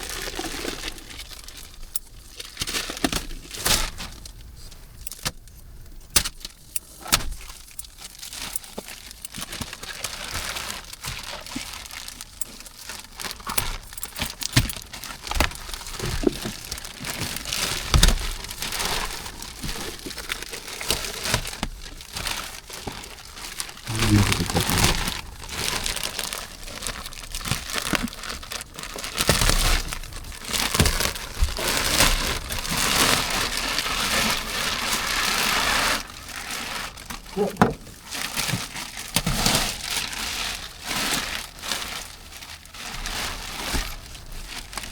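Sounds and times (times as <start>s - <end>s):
plastic wrapping crackling: 6.2s - 44.9s.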